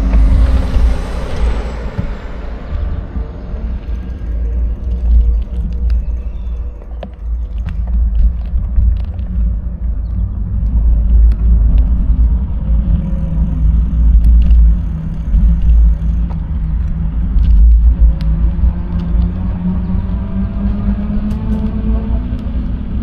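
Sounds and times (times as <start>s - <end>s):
bicycle road and wind rumble: 0.0s - 23.0s.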